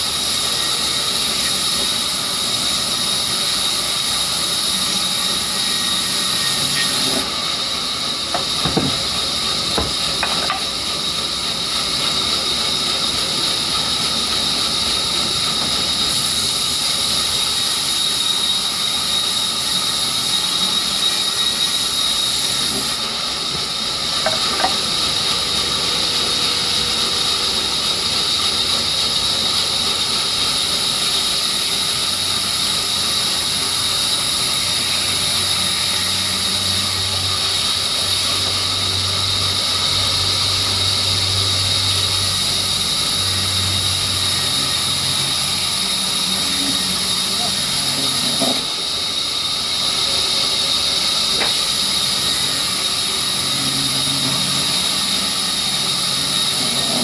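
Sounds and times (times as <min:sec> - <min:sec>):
circular saw whining through wood: 0:00.0 - 0:57.0.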